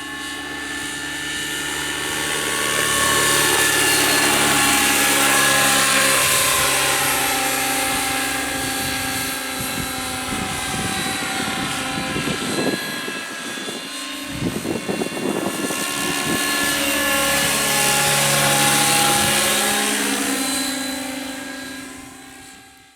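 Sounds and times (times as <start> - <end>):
model helicopter rotor whine: 0.0 - 22.9.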